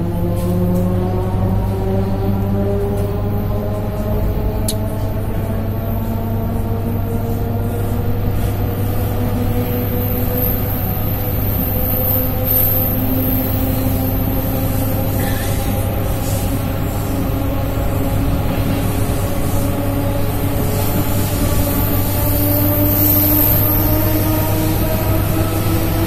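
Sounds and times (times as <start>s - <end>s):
electric train hum: 0.0s - 26.0s.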